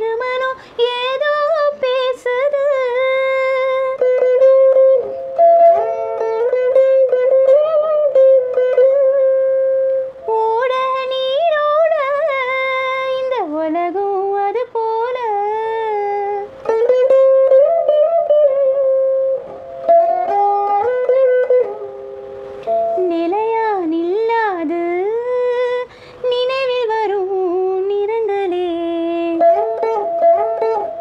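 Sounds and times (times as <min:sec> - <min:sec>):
veena melody with pitch bends: 0:00.0 - 0:31.0.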